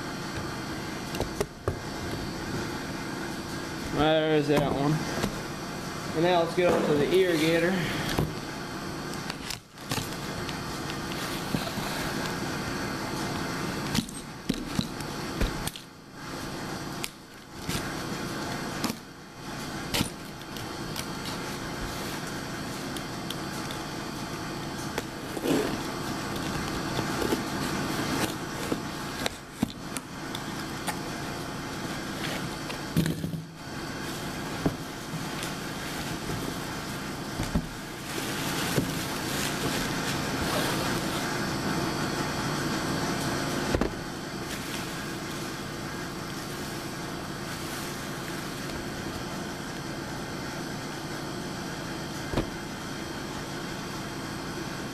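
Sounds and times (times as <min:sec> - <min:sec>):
background hum: 0:00.0 - 0:54.9.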